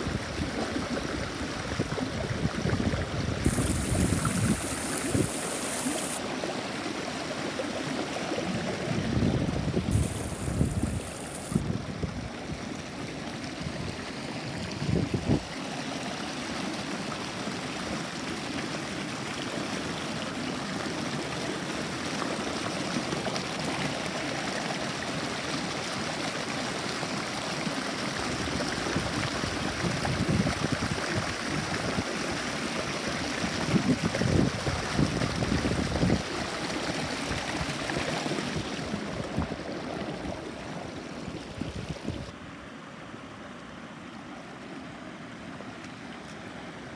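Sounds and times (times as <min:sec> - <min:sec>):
brook running over stones: 0:00.0 - 0:42.4.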